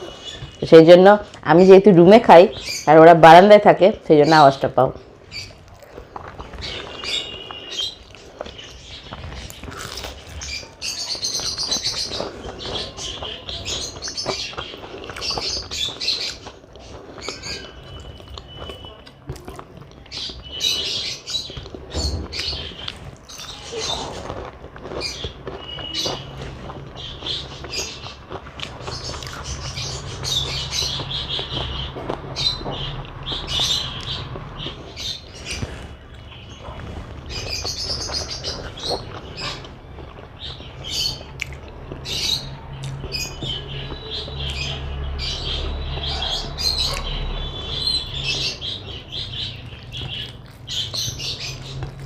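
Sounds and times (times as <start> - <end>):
pet birds chirping and chattering: 0.0 - 52.0.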